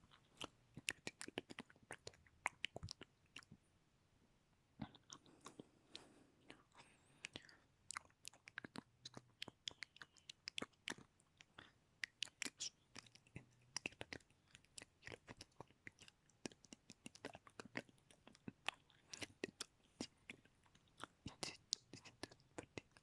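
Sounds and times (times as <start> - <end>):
wet mouth clicks and smacks: 0.1 - 3.6, 4.8 - 23.0.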